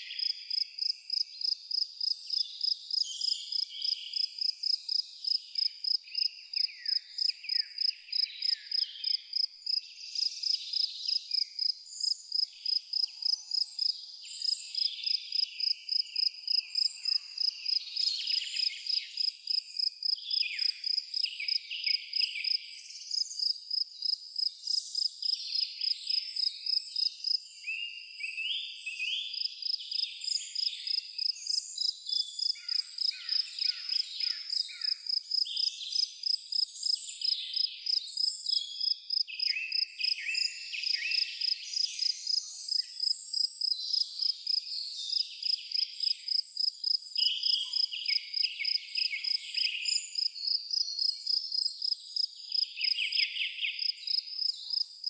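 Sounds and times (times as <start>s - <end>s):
birds singing: 0.0s - 23.6s, 24.6s - 55.0s
insect chirping: 0.0s - 28.3s, 29.3s - 55.0s.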